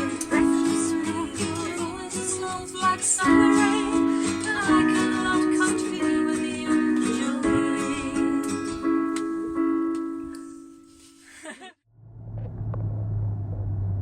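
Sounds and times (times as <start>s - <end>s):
song with ukulele and guitar: 0.0s - 11.6s.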